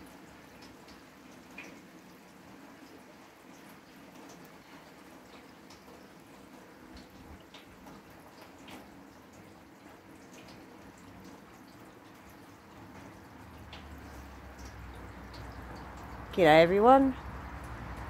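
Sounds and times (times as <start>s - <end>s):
water dripping: 0.0s - 18.0s.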